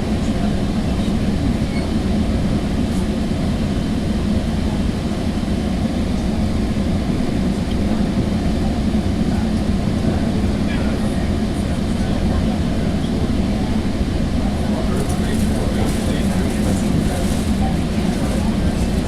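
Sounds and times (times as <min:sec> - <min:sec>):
train coach rumbling on rails: 0:00.0 - 0:19.0.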